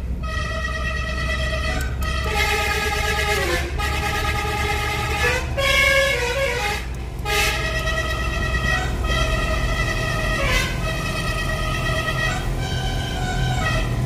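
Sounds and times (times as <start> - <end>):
low road rumble: 0.0 - 14.0
multi-trumpet bus horn tune: 0.2 - 14.0.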